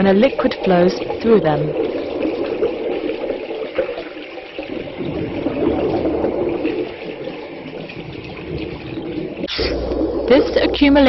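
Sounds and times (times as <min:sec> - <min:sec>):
water rushing through pipe: 0:00.0 - 0:11.0.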